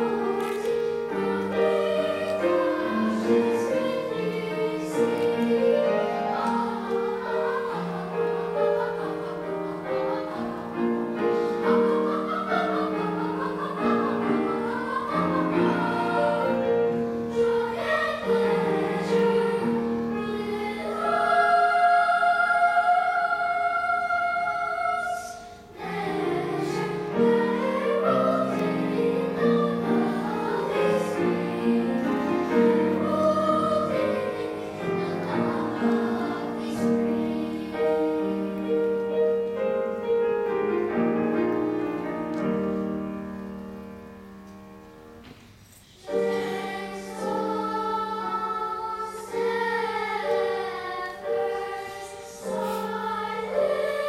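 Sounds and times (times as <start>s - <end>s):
children's choir singing: 0.0s - 54.0s
piano accompaniment: 0.0s - 54.0s.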